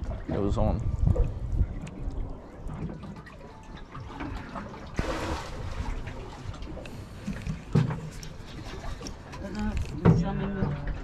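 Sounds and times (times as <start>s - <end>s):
water lapping against a hull: 0.0s - 11.0s.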